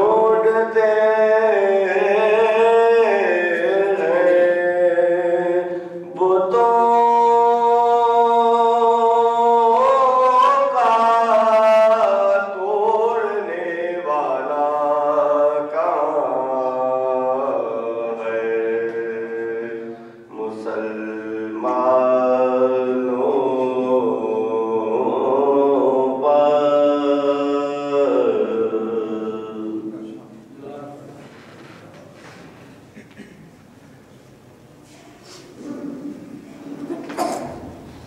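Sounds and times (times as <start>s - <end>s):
man chanting: 0.0s - 31.2s.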